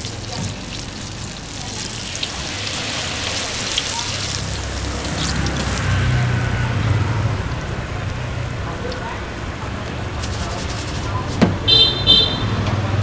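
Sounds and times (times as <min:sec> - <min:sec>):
oil crackling sizzle: 0:00.0 - 0:11.9.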